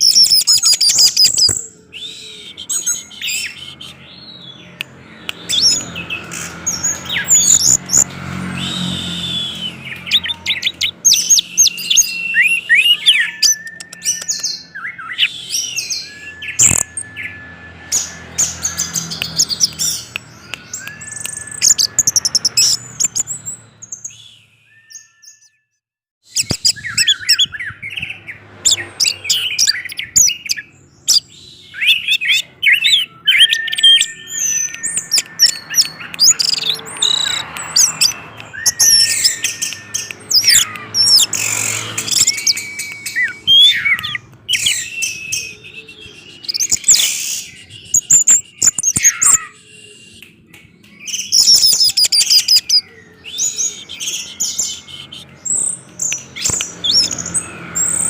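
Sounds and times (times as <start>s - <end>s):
thrush singing: 0.8s - 24.1s, 26.7s - 58.0s.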